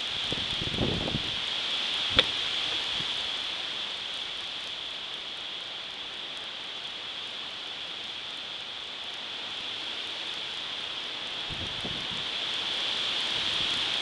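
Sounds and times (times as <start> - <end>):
wind rustling tree leaves: 0.0 - 14.0.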